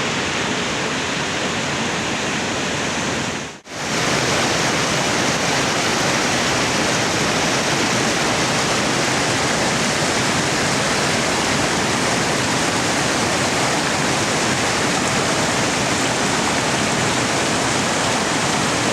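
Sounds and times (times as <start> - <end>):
rushing water: 0.0 - 18.9.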